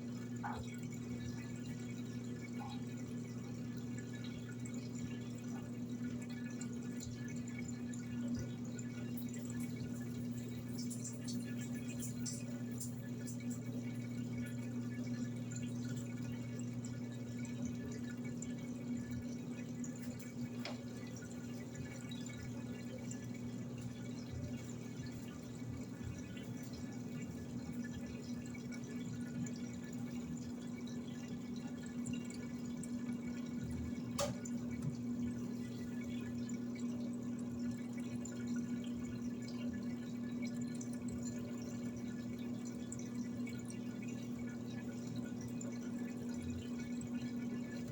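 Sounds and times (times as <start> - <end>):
low electric hum: 0.0 - 47.9
water running in washing machine: 0.0 - 47.9.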